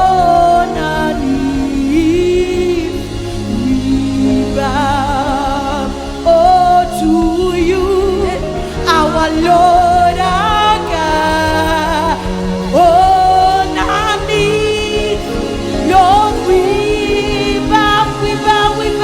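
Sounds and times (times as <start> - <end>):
gospel band accompaniment: 0.0 - 19.0
person singing long wavering notes: 0.0 - 19.0.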